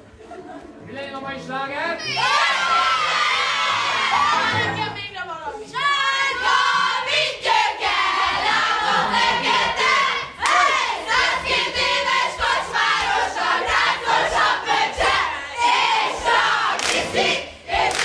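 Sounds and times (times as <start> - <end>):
young voices shouting and chanting: 2.0 - 17.4.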